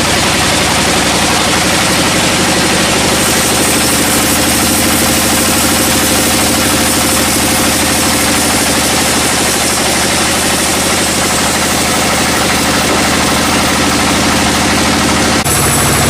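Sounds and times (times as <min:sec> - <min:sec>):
sawmill engine running: 0:00.0 - 0:16.0.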